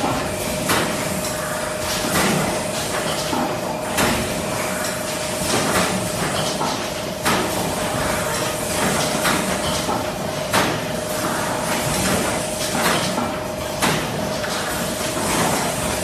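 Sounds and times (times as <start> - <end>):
machine mechanical hum: 0.0 - 16.0.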